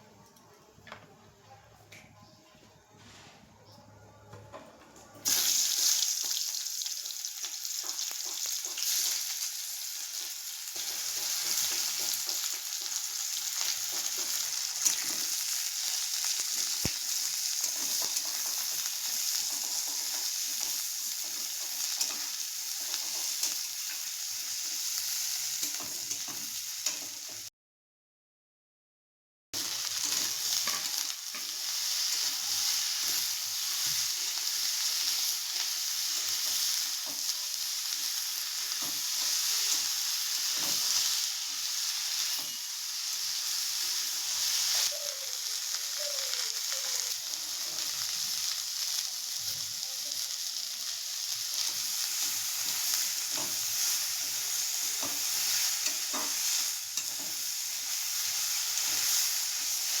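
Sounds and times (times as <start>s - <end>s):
food sizzling in hot oil: 5.2s - 27.5s, 29.6s - 60.0s.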